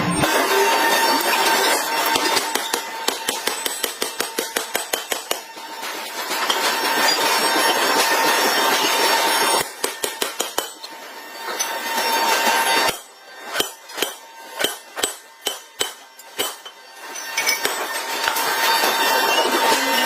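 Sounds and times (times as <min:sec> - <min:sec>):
forging hammer striking metal: 0:00.1 - 0:20.0.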